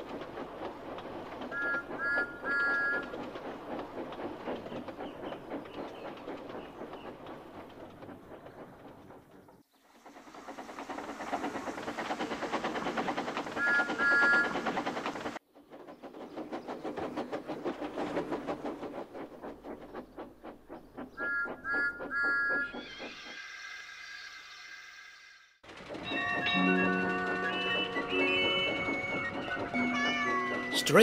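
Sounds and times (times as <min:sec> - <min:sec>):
steam engine chuffing: 0:00.0 - 0:23.4, 0:25.6 - 0:31.0.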